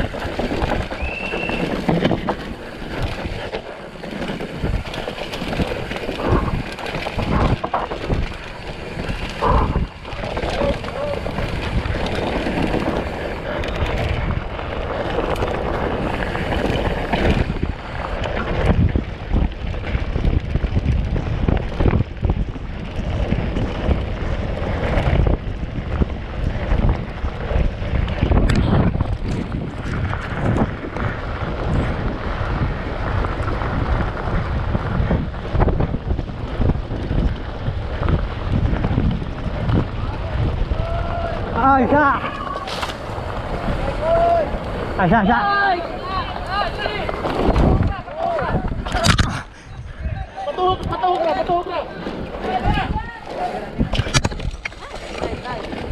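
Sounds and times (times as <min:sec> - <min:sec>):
dirt bike engine running: 0:00.0 - 0:55.9
wind buffeting on microphone: 0:00.0 - 0:55.9.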